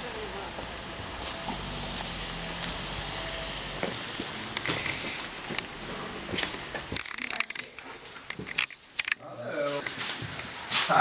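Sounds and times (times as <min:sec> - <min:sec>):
footsteps on outdoor path: 0:00.0 - 0:09.0
steady background noise: 0:00.0 - 0:11.0.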